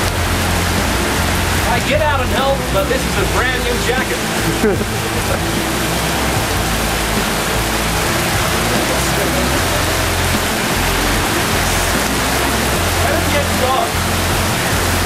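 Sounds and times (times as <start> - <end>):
heavy rain hissing: 0.0 - 15.0
low bass music: 0.0 - 15.0.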